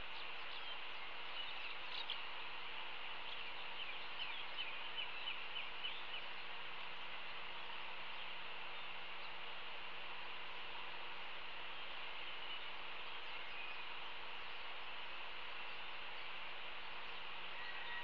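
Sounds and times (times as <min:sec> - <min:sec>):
bird chirping: 0:00.0 - 0:09.5, 0:11.7 - 0:14.8, 0:15.4 - 0:18.0
background hiss: 0:00.0 - 0:18.0.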